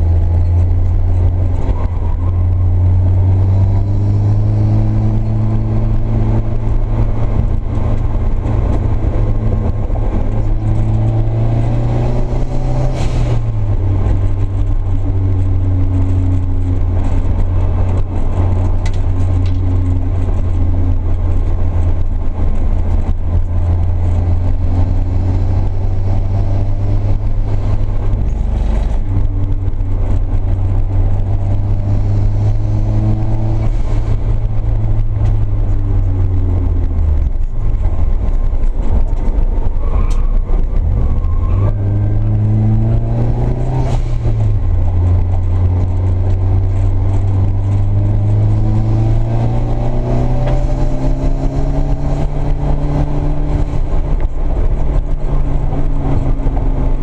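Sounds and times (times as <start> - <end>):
car engine pulling hard: 0.0 - 57.0.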